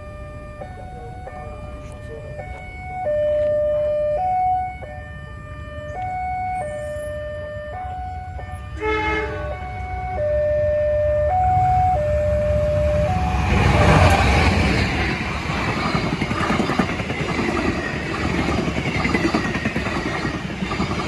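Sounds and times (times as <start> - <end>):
level crossing two-tone alarm: 0.0 - 21.0
low rumble of engines: 0.0 - 21.0.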